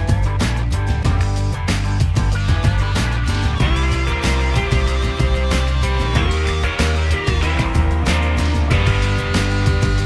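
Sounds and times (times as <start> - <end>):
upbeat rock music: 0.0 - 10.0.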